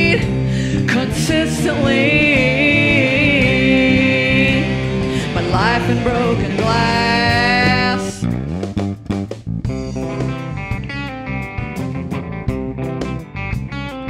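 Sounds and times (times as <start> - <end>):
rock band playing: 0.0 - 14.0
quick picked guitar notes: 2.6 - 14.0.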